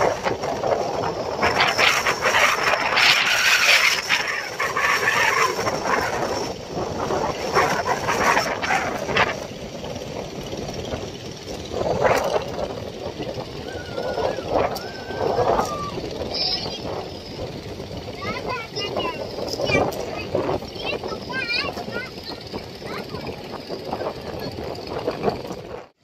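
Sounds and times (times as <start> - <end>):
boat engines running: 0.0 - 26.0.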